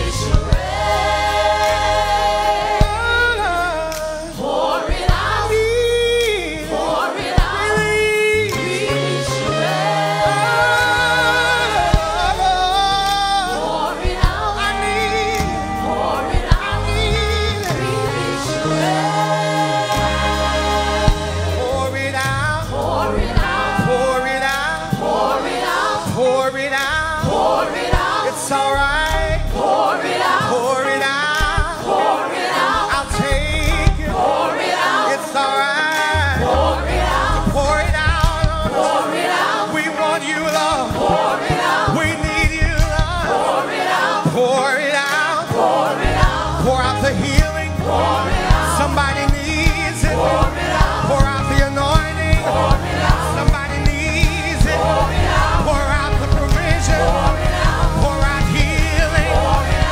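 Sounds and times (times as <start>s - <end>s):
bass: 0.0s - 29.8s, 32.8s - 34.3s, 36.0s - 38.8s, 40.7s - 43.4s, 46.0s - 59.9s
steady drum beat: 0.0s - 35.3s, 35.9s - 39.7s, 40.4s - 44.4s, 45.6s - 59.9s
choir singing with band: 0.0s - 59.9s.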